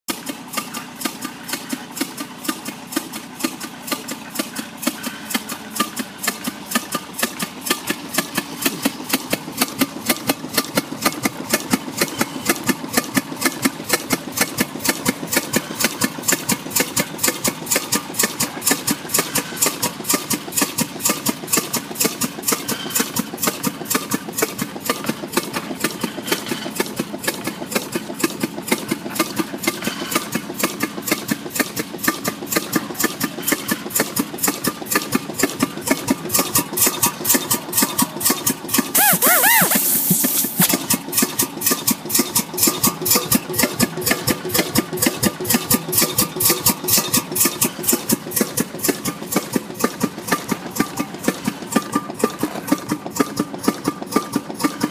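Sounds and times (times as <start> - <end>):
steam engine knocking: 0.1 - 54.9
tractor engine running: 0.1 - 54.9.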